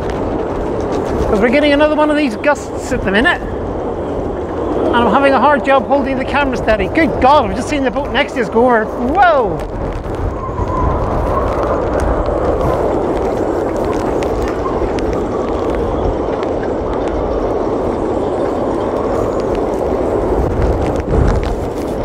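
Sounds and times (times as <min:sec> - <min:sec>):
strong wind gusting: 0:00.0 - 0:22.0
wind buffeting microphone: 0:00.0 - 0:22.0.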